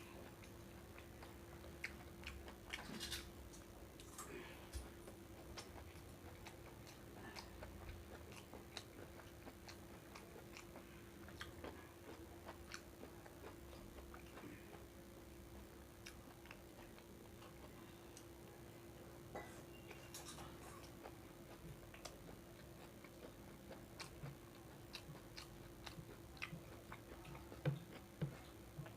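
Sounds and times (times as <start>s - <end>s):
faint chewing: 0.0s - 28.9s
faint steady hum: 0.0s - 28.9s.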